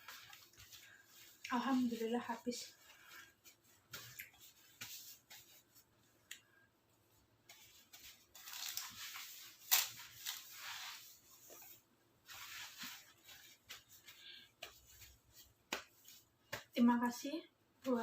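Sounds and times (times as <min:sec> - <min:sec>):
faint rustling and handling noise: 0:00.0 - 0:18.0.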